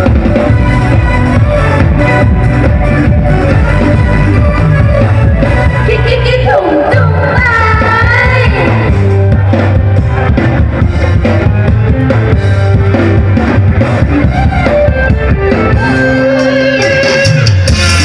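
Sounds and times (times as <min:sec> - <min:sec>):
live band music over sound system: 0:00.0 - 0:18.0.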